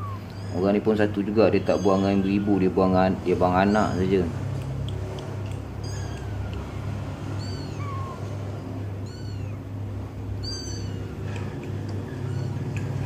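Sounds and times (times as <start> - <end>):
kitten mewing: 0.0 - 13.0.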